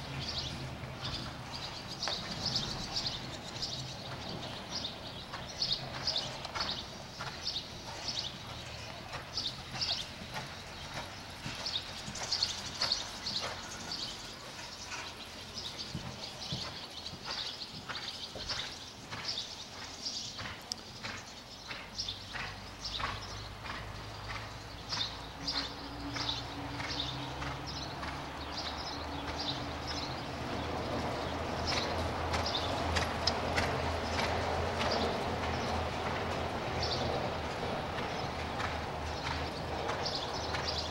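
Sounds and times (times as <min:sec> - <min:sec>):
small birds chirping: 0:00.0 - 0:40.9
horse hoofbeats: 0:00.4 - 0:40.9.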